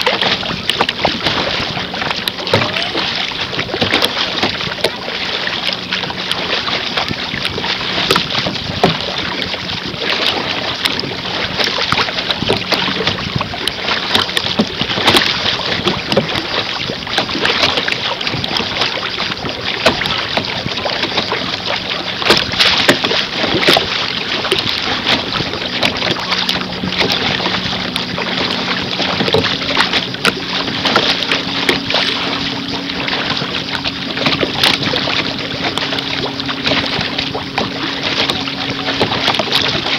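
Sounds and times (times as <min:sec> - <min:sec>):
water slapping against canoe: 0:00.0 - 0:39.9.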